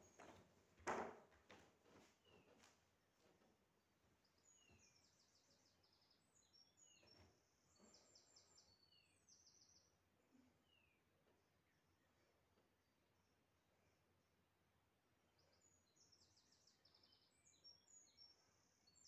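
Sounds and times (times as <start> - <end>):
faint birdsong: 1.9 - 19.0.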